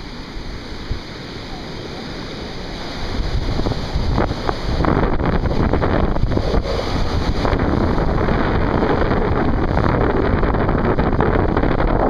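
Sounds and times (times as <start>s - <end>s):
surf breaking: 0.0s - 12.0s
wind buffeting microphone: 0.0s - 12.0s.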